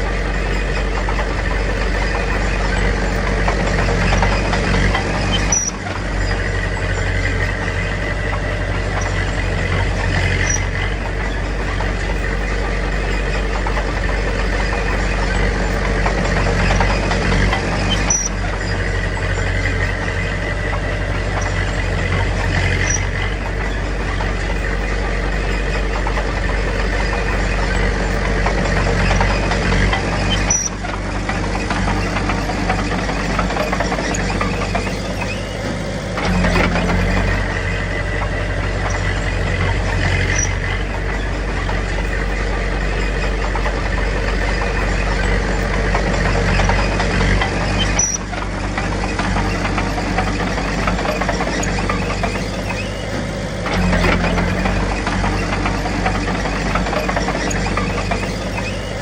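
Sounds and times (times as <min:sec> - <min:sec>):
diesel construction machinery rumbling: 0:00.0 - 0:59.0
short high squeaks: 0:00.2 - 0:59.0.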